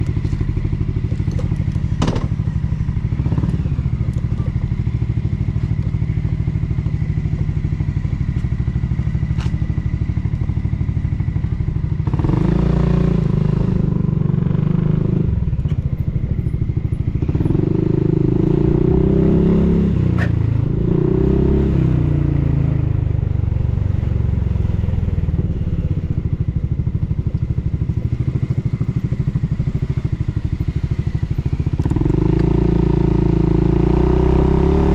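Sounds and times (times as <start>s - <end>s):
scooter engine idling and revving: 0.0s - 34.9s.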